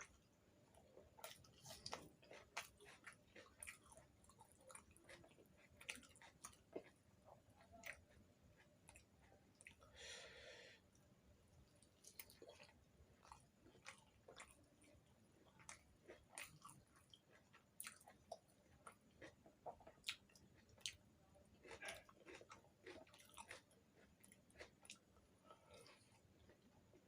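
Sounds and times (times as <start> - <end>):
person chewing food: 0.0 - 10.2, 11.7 - 27.0.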